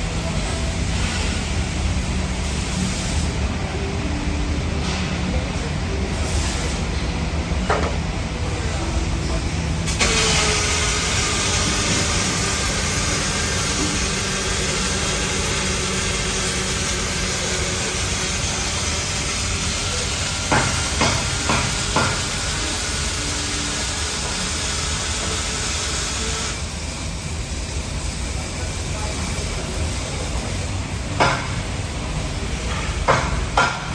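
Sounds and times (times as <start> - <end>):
welding arc sizzling hiss: 0.0 - 4.6, 6.1 - 7.1, 9.8 - 33.9.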